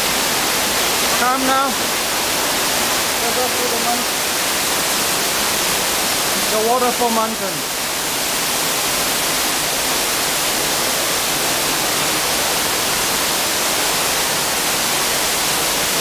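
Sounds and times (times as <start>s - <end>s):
waterfall pouring: 0.0s - 16.0s.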